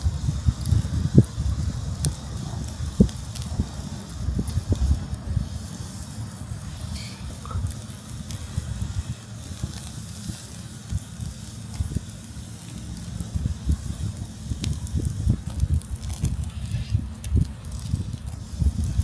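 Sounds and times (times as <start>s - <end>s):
campfire crackling and popping: 0.0s - 19.0s
low uneven rumble: 0.0s - 19.0s
steady hiss: 0.0s - 19.0s.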